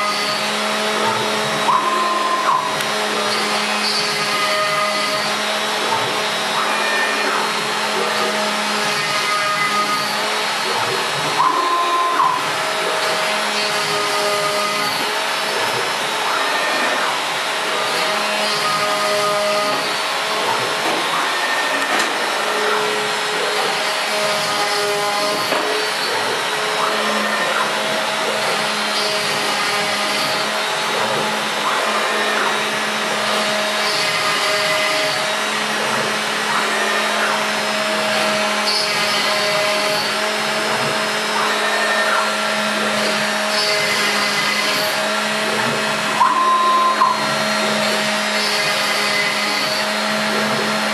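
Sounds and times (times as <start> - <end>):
router motor rush: 0.0 - 50.9
stepper motor whines: 0.0 - 50.9.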